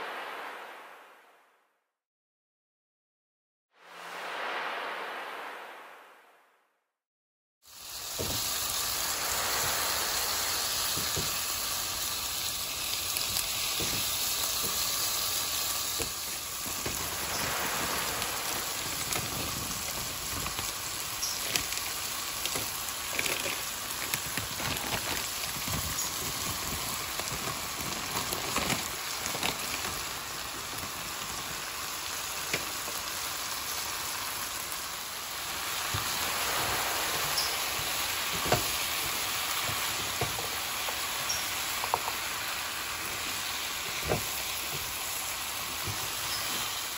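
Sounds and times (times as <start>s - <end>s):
food sizzling in hot oil: 7.6s - 46.9s.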